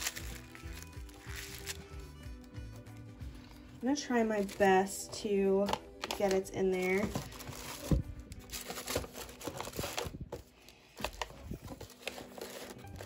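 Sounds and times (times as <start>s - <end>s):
paper packages rustling in a box: 0.0s - 2.2s, 3.9s - 13.0s
tissue paper crinkling: 0.0s - 2.2s, 4.0s - 5.0s, 5.6s - 13.0s.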